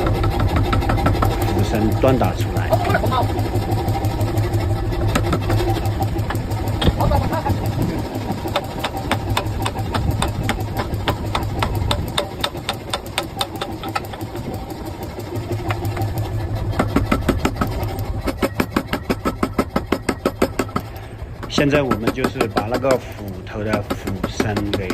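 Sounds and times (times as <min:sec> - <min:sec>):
motor humming: 0:00.0 - 0:24.9
power hammer pounding hot steel: 0:00.0 - 0:24.9.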